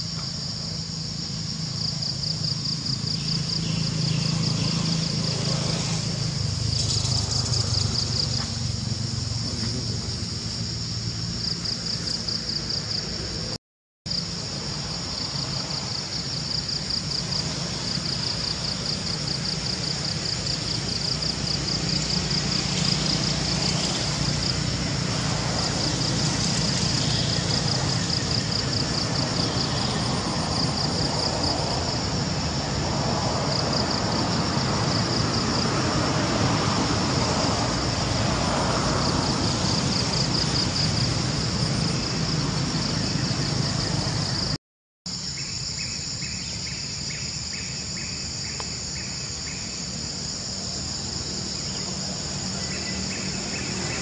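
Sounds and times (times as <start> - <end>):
insect chorus pulsing chirr: 0.0 - 54.0.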